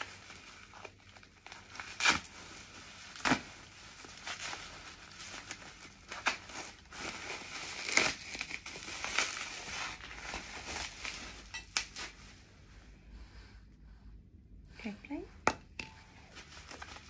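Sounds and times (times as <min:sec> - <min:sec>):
bubble wrap crackling: 0:00.0 - 0:12.6, 0:15.9 - 0:17.0.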